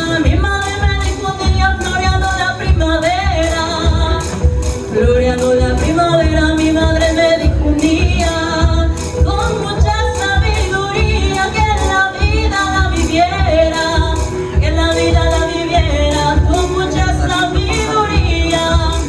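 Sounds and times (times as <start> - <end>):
woman singing: 0.0 - 19.0.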